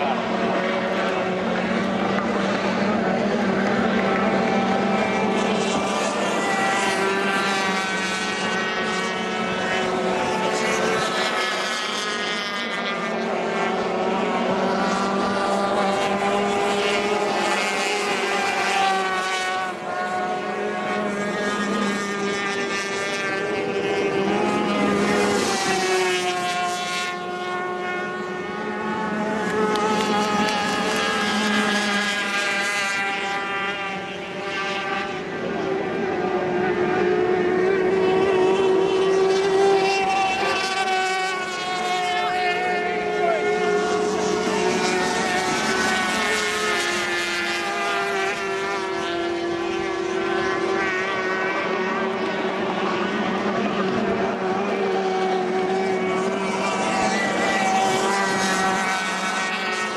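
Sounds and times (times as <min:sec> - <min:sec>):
racing boat engines passing: 0:00.0 - 0:59.9.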